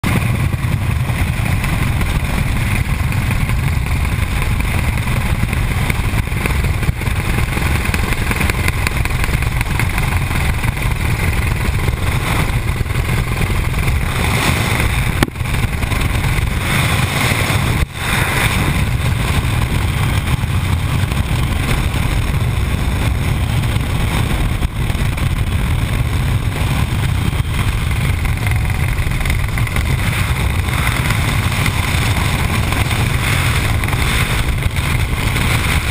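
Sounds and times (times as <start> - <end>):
helicopter engine and rotor: 0.0 - 35.9
wind rushing: 0.0 - 35.9.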